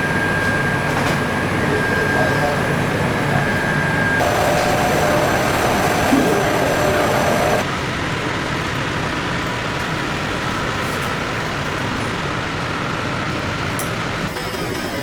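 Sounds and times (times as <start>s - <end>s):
factory machinery noise: 0.0s - 15.0s.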